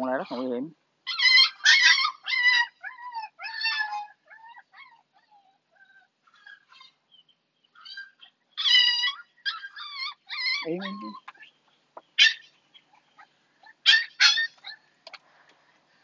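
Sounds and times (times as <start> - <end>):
puppy yelping and whining: 1.0 - 11.6, 12.2 - 14.9.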